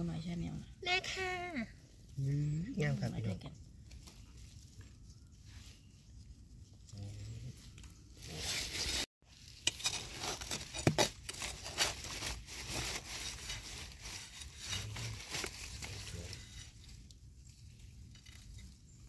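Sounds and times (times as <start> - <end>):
leaves and soil rustling: 0.0 - 19.0.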